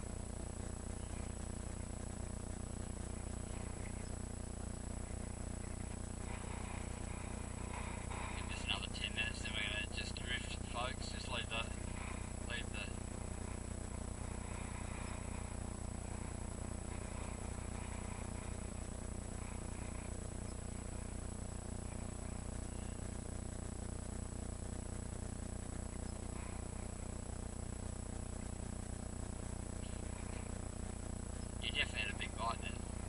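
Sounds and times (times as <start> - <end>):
low rumble and hiss: 0.0 - 33.0
thin high-pitched whine: 0.0 - 33.0.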